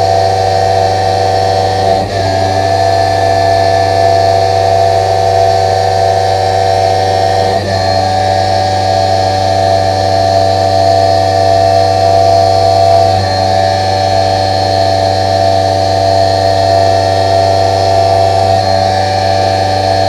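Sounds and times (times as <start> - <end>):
drill cutting steel: 0.0 - 20.0
mill spindle hum and whine: 0.0 - 20.0.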